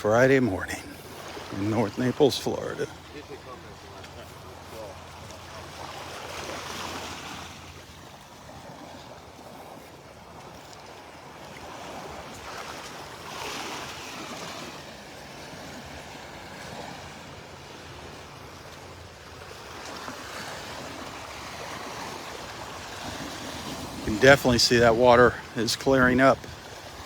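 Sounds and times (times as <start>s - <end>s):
surf washing onto sandy beach: 0.0s - 27.0s.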